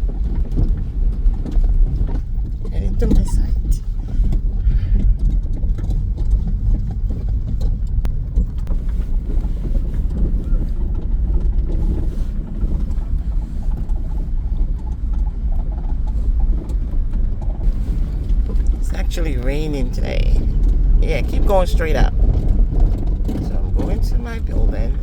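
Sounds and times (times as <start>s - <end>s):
car engine and tyres rumbling: 0.0s - 25.0s.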